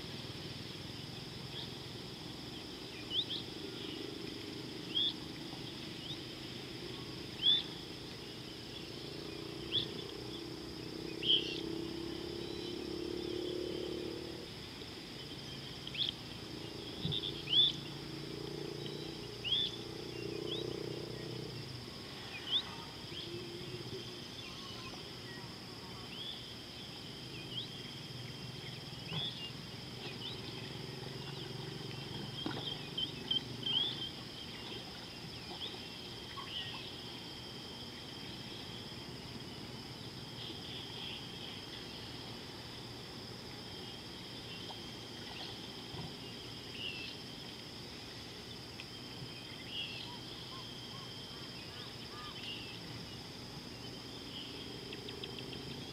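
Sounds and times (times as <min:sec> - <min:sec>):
high-pitched insect trill: 0:00.0 - 0:55.9.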